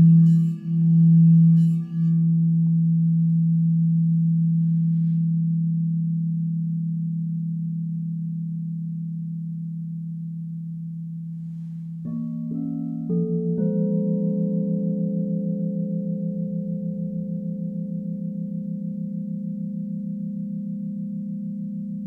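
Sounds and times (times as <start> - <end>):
crystal singing bowl ringing: 0.0 - 22.0.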